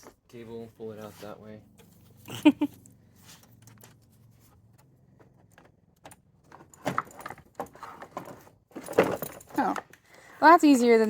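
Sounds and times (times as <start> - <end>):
metallic clinking and rattling: 1.7 - 11.0.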